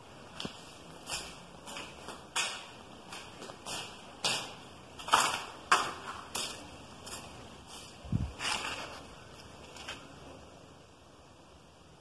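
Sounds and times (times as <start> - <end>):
footsteps walking: 0.0 - 10.2.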